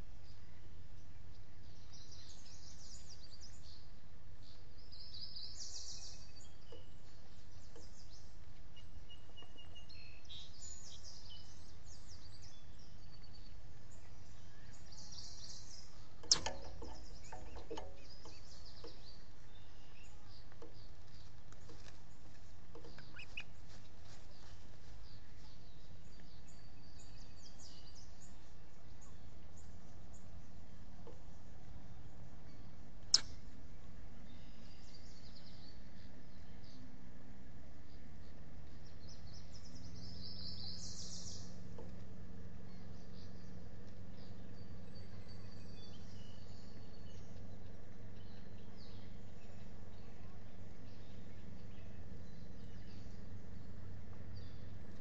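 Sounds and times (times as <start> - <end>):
background noise: 0.0 - 55.0
birds chirping: 0.0 - 55.0.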